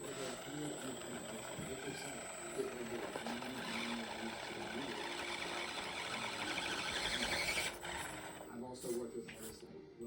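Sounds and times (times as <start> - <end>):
small electric motor whining: 0.0 - 9.1.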